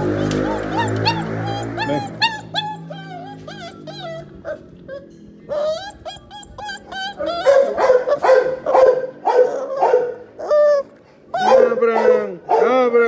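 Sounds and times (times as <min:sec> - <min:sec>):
puppy whining and yelping: 0:00.0 - 0:12.2.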